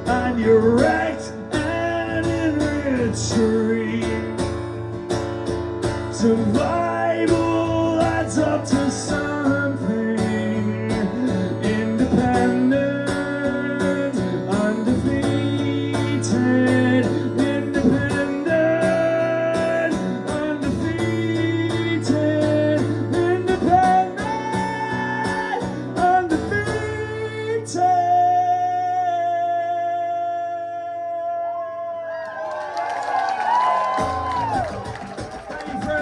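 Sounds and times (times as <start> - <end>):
acoustic guitar strumming: 0.0 - 31.1.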